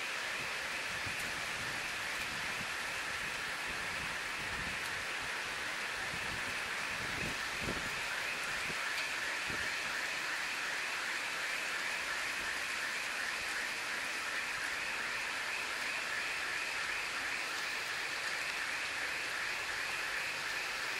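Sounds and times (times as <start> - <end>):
heavy rain: 0.0 - 20.9
fast regular pulsing noise: 0.1 - 20.9.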